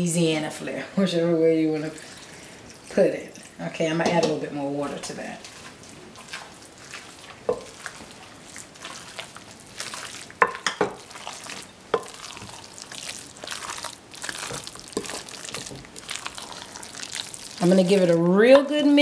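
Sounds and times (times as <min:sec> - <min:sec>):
spoon stirring thick batter: 0:01.6 - 0:19.0.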